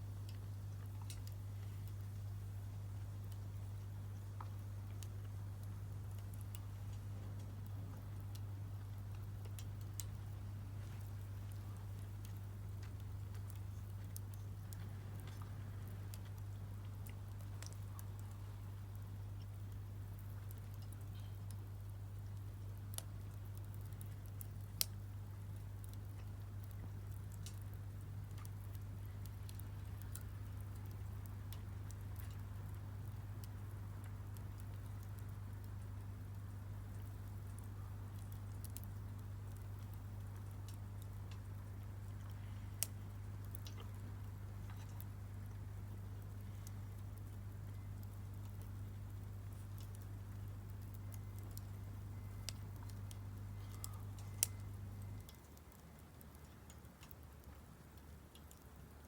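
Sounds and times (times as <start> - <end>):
firewood crackling and popping: 0.0 - 59.0
steady low hum: 0.0 - 59.0.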